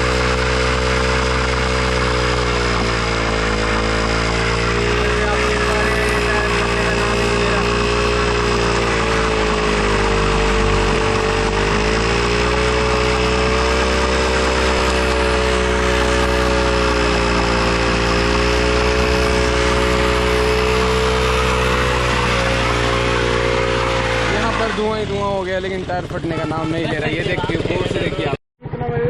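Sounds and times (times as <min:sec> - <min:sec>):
motorcycle engine revving high: 0:00.0 - 0:29.0.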